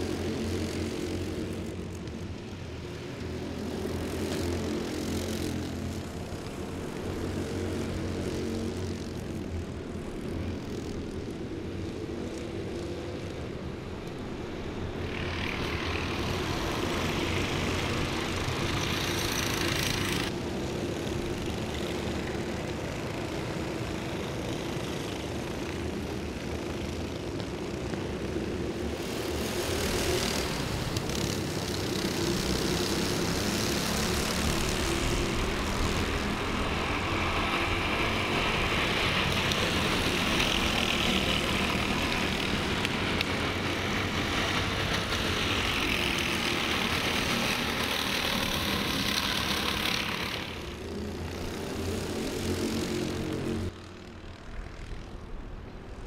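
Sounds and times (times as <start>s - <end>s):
kart engines buzzing past: 0.0s - 56.0s.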